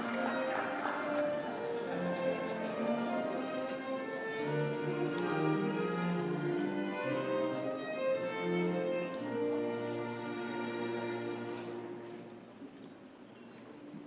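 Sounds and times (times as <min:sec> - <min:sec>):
string ensemble playing: 0:00.0 - 0:13.6.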